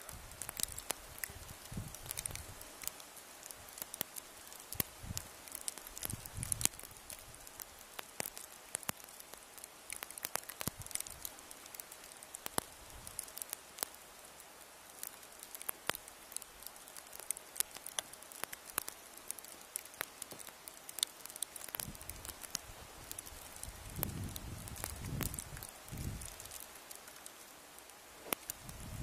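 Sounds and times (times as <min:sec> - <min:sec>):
sharp crackling clicks: 0:00.0 - 0:14.0, 0:14.8 - 0:27.5, 0:28.2 - 0:28.7
faint steady hiss: 0:00.0 - 0:29.0.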